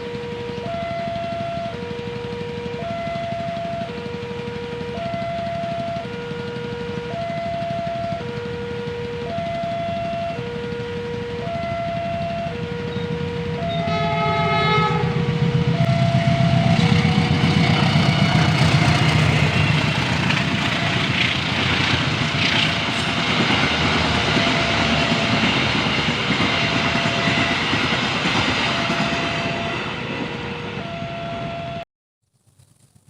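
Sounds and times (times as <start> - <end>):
train wheels rumbling on rails: 0.0 - 31.8.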